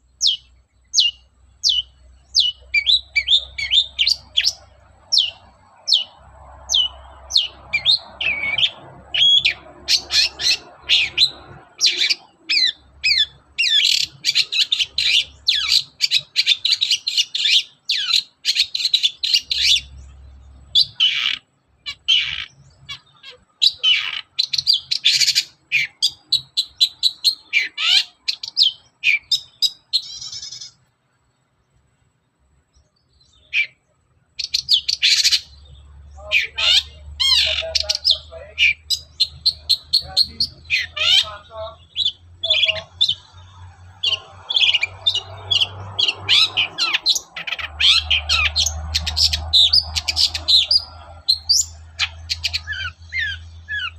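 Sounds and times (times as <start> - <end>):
bird singing chirps and trills: 0.0 - 53.9.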